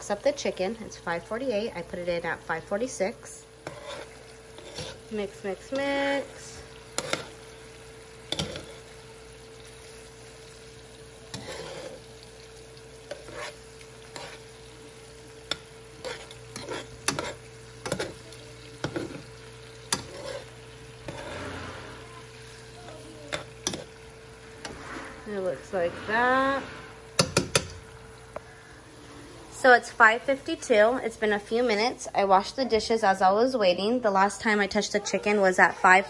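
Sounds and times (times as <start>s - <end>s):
chicken sizzling in oil: 0.0s - 32.6s.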